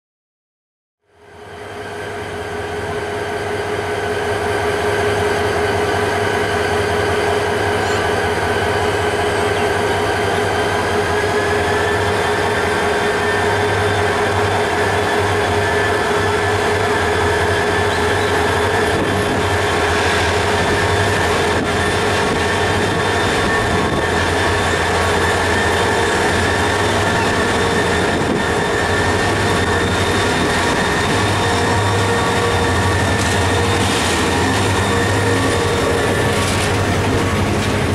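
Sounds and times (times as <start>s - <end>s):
diesel locomotive engine hum: 1.1s - 37.9s.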